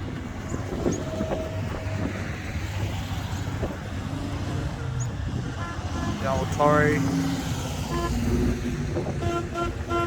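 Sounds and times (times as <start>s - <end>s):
cars driving slowly past: 0.0s - 10.0s.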